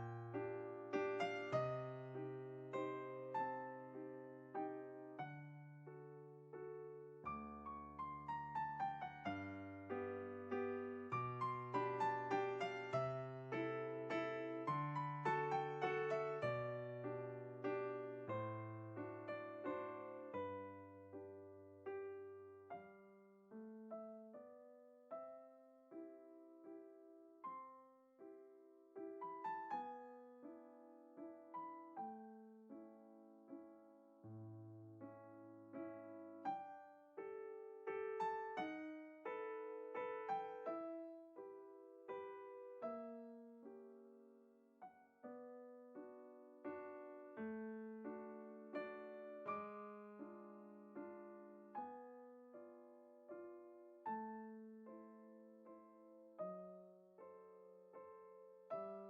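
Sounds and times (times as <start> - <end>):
slow solo piano music: 0.0 - 59.0.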